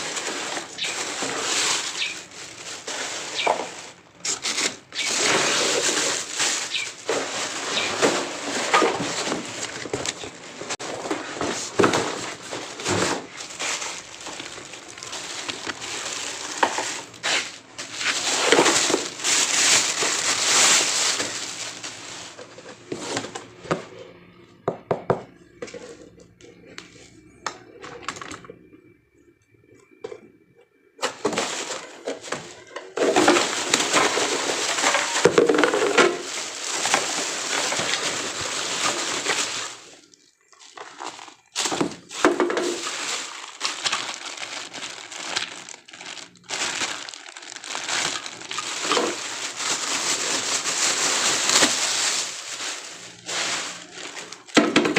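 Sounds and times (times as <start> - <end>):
plastic packaging crinkling: 0.0 - 23.6, 31.0 - 54.9.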